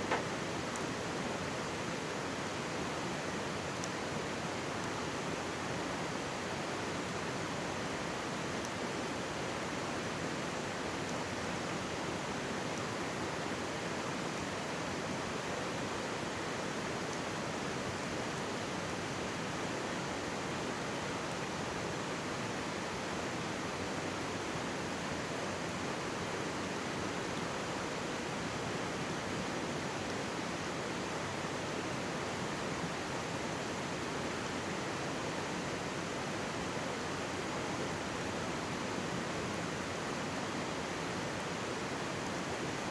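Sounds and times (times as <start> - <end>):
mountain stream rushing: 0.0 - 42.9.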